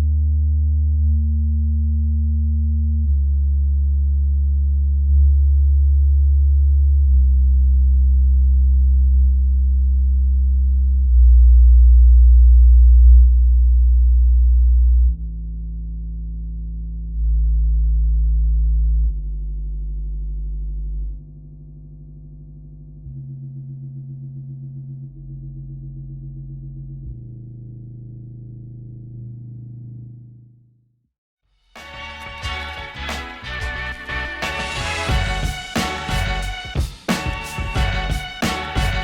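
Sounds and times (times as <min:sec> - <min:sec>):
deep bass test tones: 0:00.0 - 0:30.8, 0:33.5 - 0:39.0.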